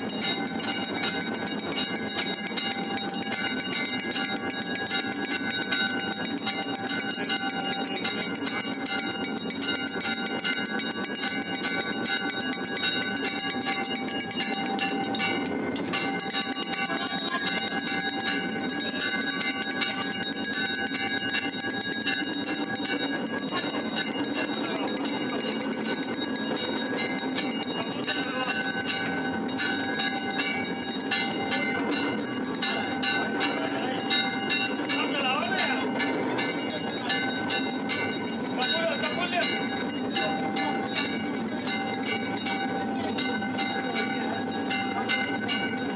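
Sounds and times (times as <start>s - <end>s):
many bells ringing: 0.0s - 45.9s.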